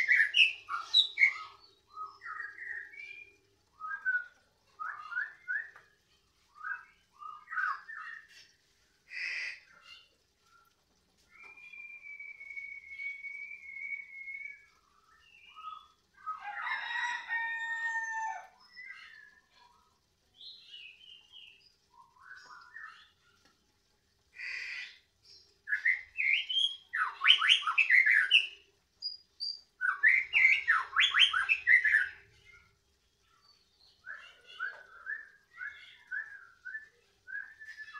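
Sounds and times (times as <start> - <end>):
songbird singing: 0.0 - 23.6, 24.4 - 37.9.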